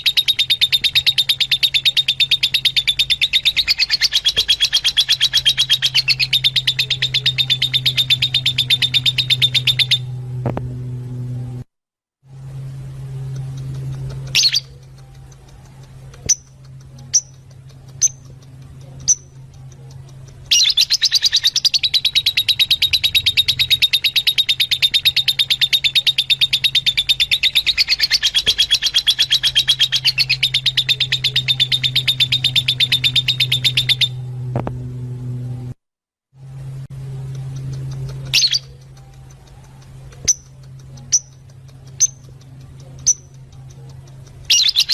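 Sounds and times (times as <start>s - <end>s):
lovebirds chirping: 0.0s - 10.2s, 13.2s - 34.3s, 37.4s - 44.9s
low hum: 0.0s - 35.8s, 36.4s - 44.9s.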